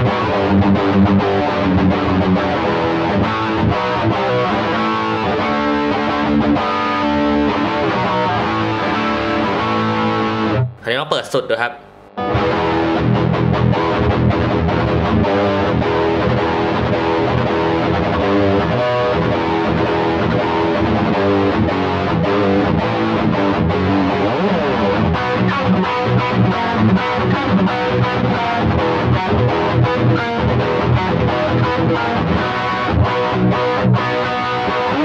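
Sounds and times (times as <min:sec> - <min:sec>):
distorted electric guitar riffs: 0:00.0 - 0:35.0.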